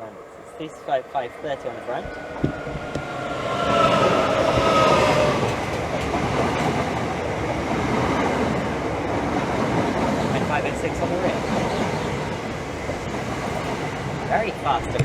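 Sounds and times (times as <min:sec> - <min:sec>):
train traction whine: 0:00.0 - 0:15.0
wheels on rail: 0:00.0 - 0:15.0.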